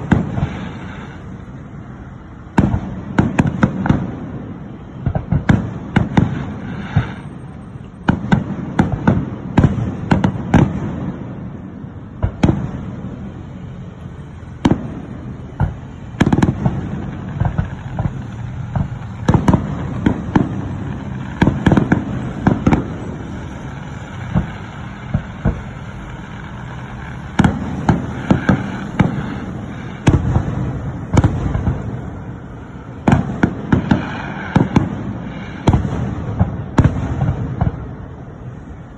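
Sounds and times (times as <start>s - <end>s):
fireworks cracking and booming: 0.0s - 38.9s.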